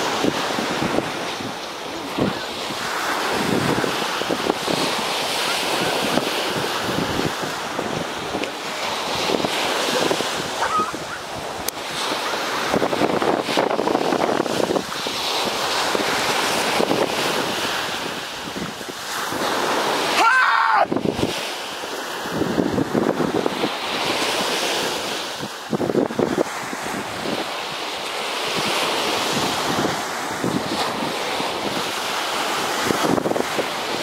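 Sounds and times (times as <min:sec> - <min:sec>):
ocean surf washing onto beach: 0:00.0 - 0:34.0.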